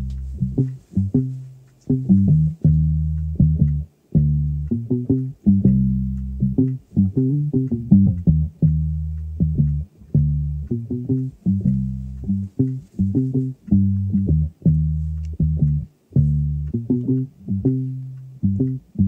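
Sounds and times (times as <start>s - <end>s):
plucked bass guitar: 0.0s - 19.0s.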